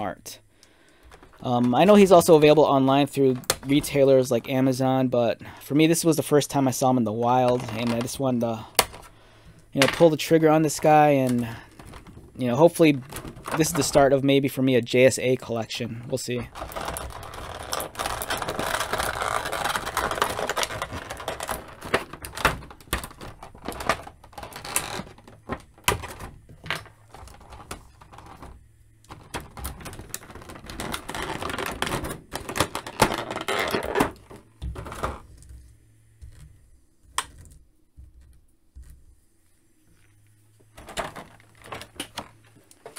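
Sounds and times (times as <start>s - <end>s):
plastic tray crackling: 1.0s - 4.8s, 6.7s - 9.2s, 9.8s - 14.2s, 16.1s - 39.0s, 40.6s - 42.9s.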